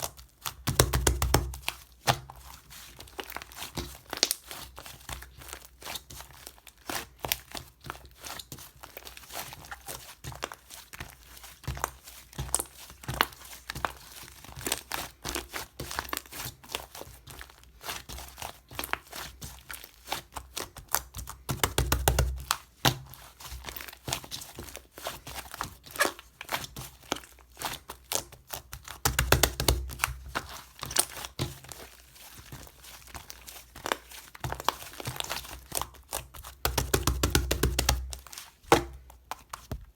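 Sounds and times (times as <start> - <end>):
slime crackling and popping: 0.0 - 10.6, 11.7 - 17.4, 18.1 - 39.7.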